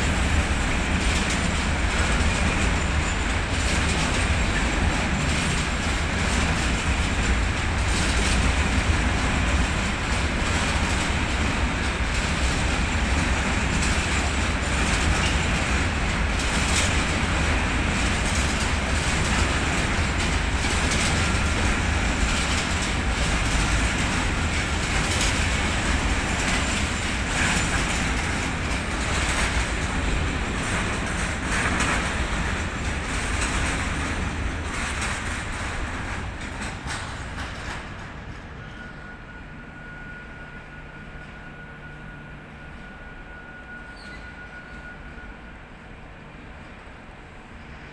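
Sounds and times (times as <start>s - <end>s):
freight train wagons rumbling past: 0.0s - 47.9s.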